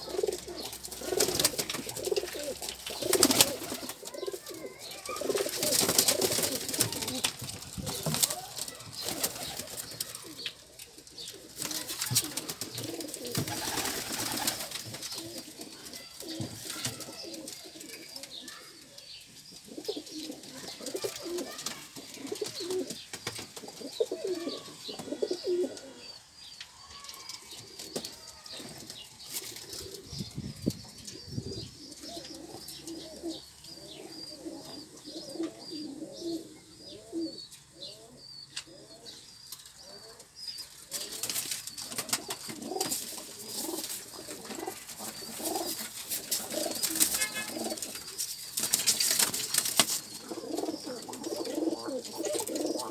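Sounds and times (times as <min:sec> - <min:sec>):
pigeons cooing: 0:00.0 - 0:26.2, 0:27.0 - 0:52.9.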